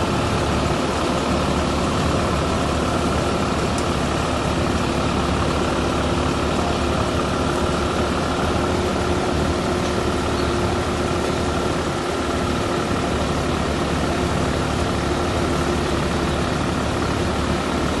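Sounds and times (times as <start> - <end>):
thresher engine rumble and whine: 0.0 - 18.0.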